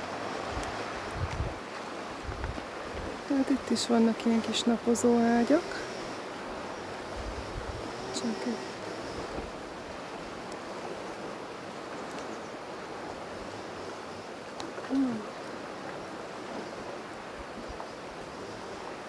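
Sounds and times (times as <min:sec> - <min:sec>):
distant sea surf: 0:00.0 - 0:19.0.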